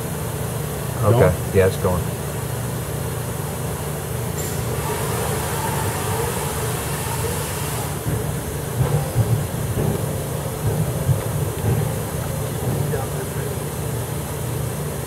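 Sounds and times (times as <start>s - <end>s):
machine hum: 2.1s - 15.0s
coolant spray hiss: 2.2s - 15.0s.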